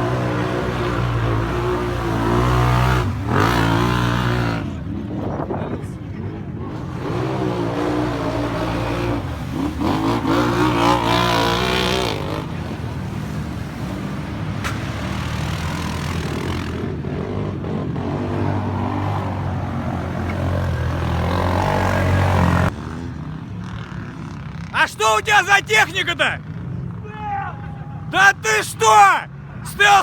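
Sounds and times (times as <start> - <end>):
atv engines revving: 0.0 - 30.0.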